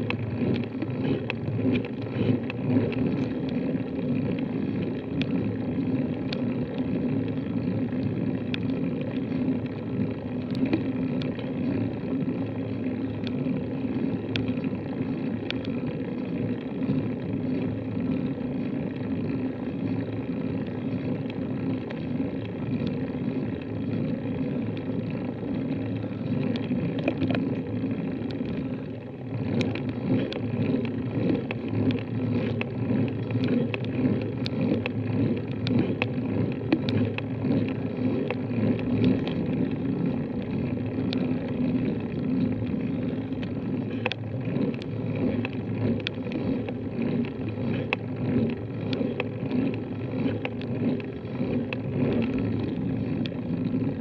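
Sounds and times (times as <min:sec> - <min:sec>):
bicycle tyres and drivetrain rumble: 0:00.0 - 0:54.0
light ticks: 0:00.0 - 0:54.0.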